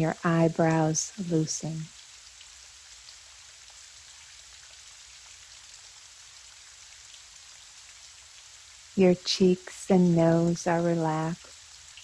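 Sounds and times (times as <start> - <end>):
gentle rain hissing: 0.0 - 12.0.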